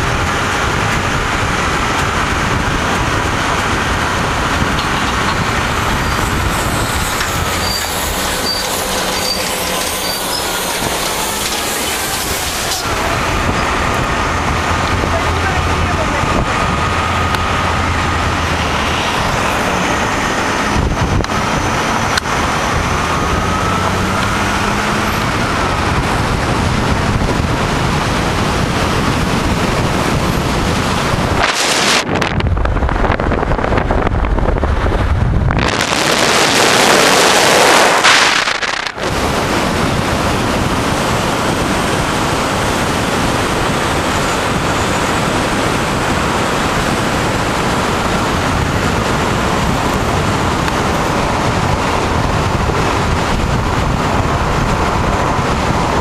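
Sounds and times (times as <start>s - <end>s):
wind and road noise in car: 0.0s - 56.0s.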